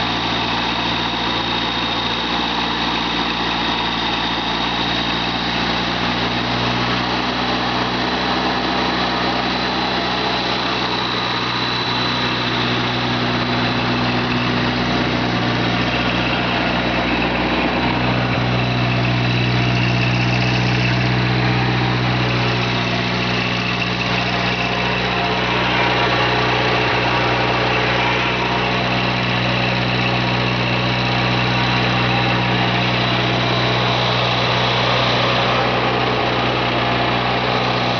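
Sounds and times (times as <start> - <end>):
concrete saw engine running: 0.0 - 37.9.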